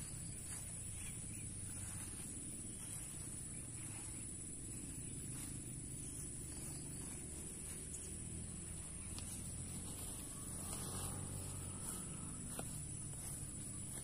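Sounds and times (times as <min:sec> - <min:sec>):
constant low rumble: 0:00.0 - 0:14.0
insects droning: 0:00.0 - 0:14.0.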